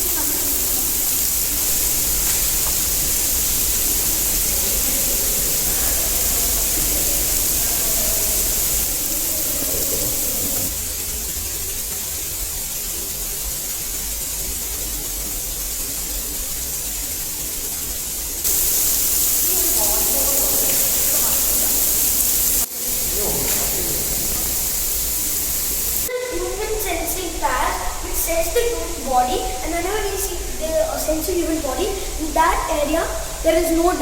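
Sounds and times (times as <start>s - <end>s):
heavy rain pouring on floor: 0.0s - 34.0s.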